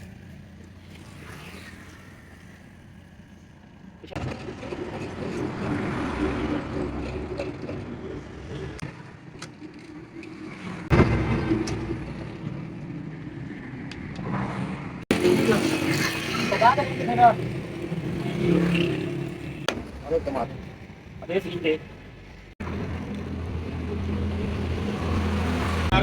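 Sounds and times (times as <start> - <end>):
motor vehicle running: 0.0 - 26.0.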